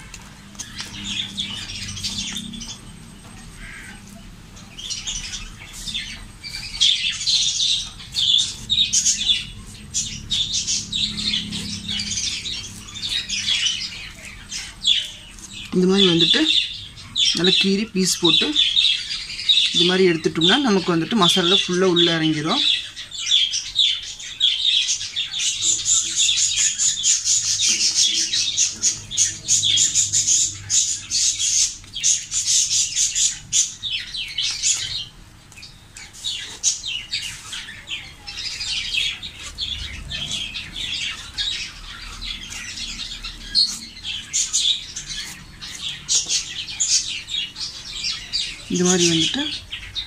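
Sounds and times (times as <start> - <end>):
birds chattering: 0.0 - 50.0.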